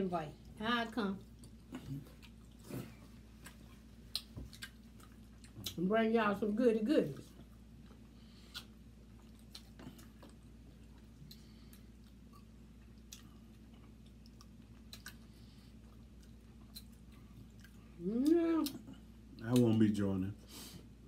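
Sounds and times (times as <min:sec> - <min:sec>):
low steady hum: 0:00.0 - 0:21.0
chewing and mouth smacking: 0:01.2 - 0:05.9, 0:07.0 - 0:19.9.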